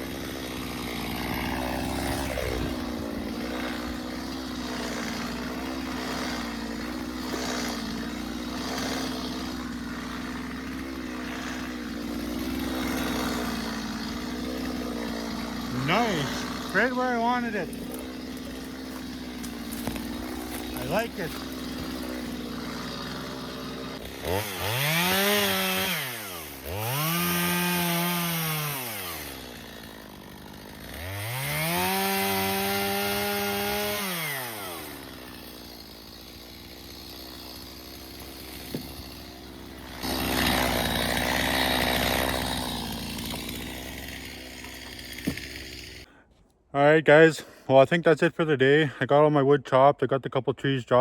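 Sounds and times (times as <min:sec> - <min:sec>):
chainsaw idling and revving: 0:00.0 - 0:46.2.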